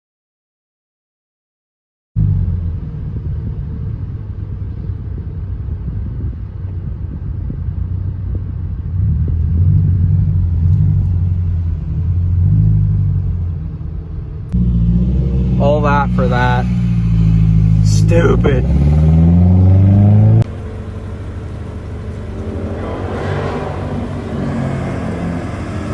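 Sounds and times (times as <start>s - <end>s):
car engine idling and revving: 2.2s - 25.9s.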